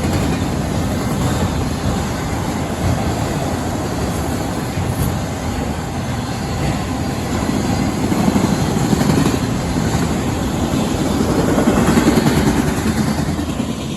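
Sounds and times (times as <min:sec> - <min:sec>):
freight train passing: 0:00.0 - 0:13.9.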